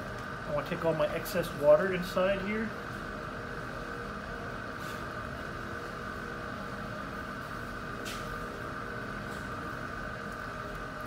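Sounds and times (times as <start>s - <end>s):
pottery wheel motor hum: 0.0s - 11.0s.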